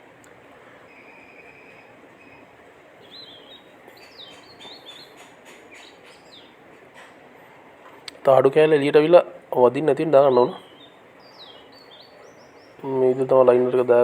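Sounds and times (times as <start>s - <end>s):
faint steady hiss: 0.0s - 14.0s
small birds chirping: 0.0s - 14.0s.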